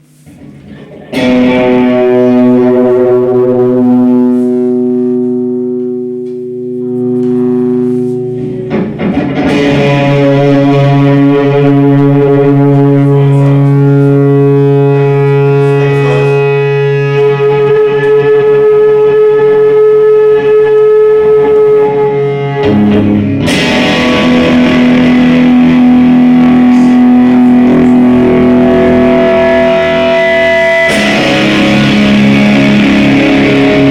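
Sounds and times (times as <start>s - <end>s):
distorted electric guitar chords: 0.0s - 33.9s.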